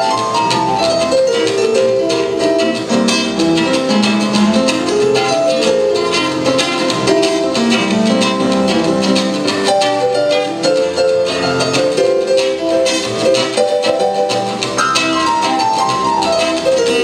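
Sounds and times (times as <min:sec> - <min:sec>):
acoustic guitar strumming: 0:00.0 - 0:17.0
electronic keyboard playing: 0:00.0 - 0:17.0.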